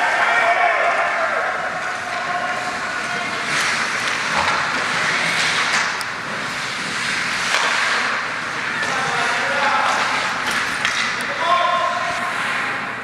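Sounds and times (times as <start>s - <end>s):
skates scraping across ice: 0.8s - 13.0s
hockey sticks or puck clicking: 1.6s - 12.9s.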